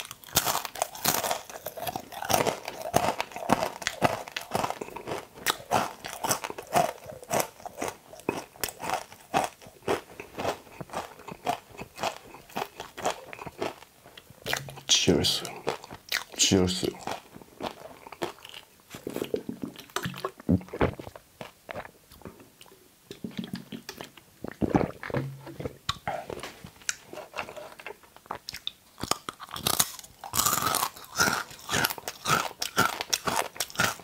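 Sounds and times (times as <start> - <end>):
chewing with wet crunches: 0.0 - 22.0, 23.4 - 34.0.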